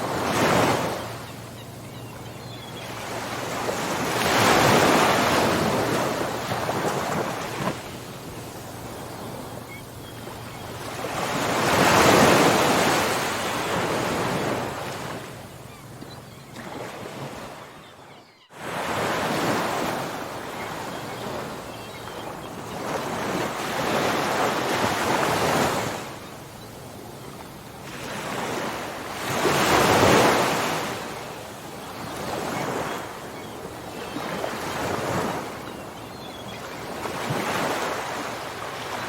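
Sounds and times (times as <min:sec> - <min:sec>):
ocean waves rushing and washing back: 0:00.0 - 0:17.9, 0:18.5 - 0:39.0.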